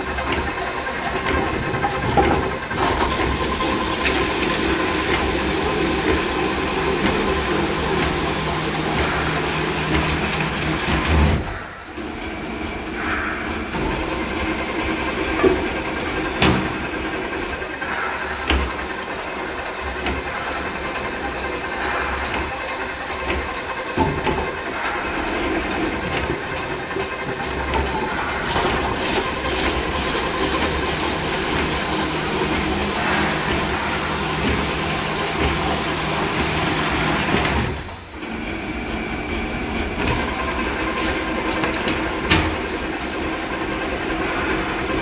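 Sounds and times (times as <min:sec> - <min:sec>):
veneer lathe machinery running: 0:00.0 - 0:45.0.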